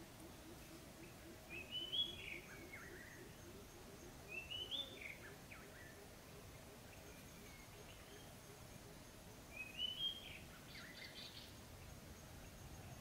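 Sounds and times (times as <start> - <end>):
bird warbling song: 0.0 - 13.0.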